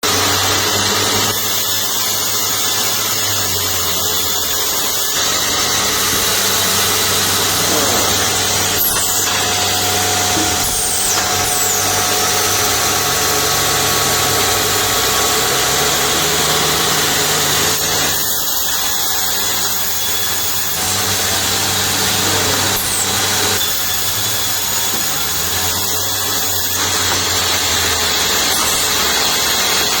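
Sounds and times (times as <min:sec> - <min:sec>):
woodworking machinery running: 0:00.0 - 0:30.0.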